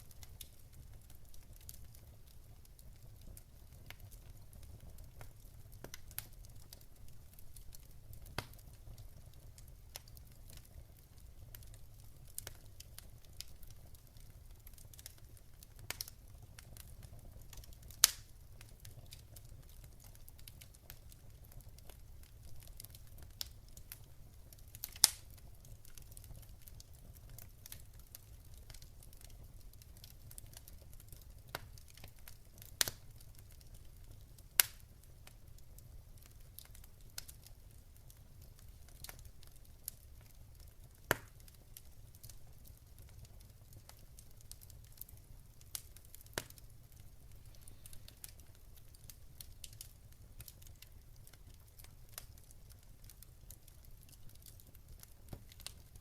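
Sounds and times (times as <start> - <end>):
low fire rumble: 0.0 - 56.0
wood fire popping: 0.0 - 56.0.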